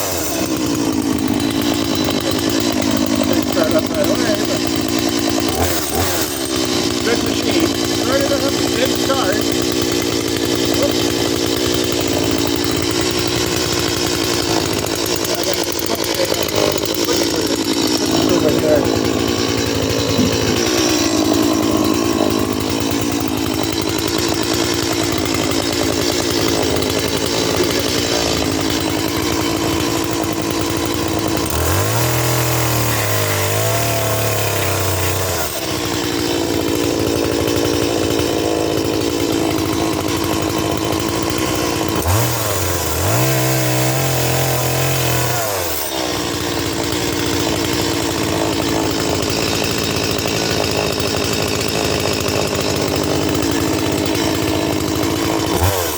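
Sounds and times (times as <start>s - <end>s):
chainsaw running and revving: 0.0s - 55.9s.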